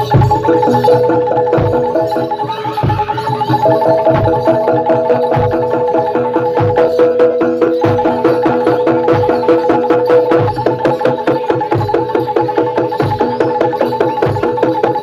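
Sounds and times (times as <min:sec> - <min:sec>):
deep drum beat: 0:00.0 - 0:12.0
metallophone notes: 0:00.0 - 0:15.0.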